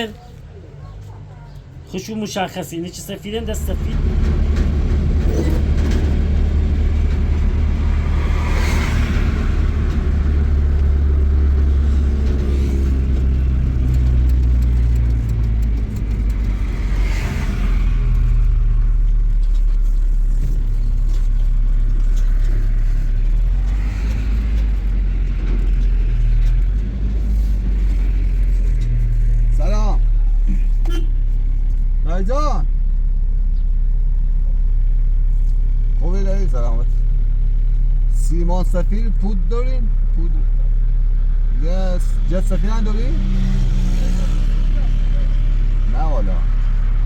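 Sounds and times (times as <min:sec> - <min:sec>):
vehicle engine running: 0:02.5 - 0:47.0.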